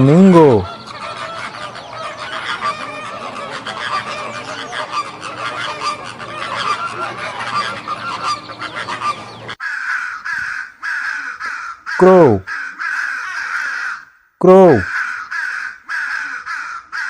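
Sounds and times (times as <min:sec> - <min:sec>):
flamingos honking: 0:00.0 - 0:14.0.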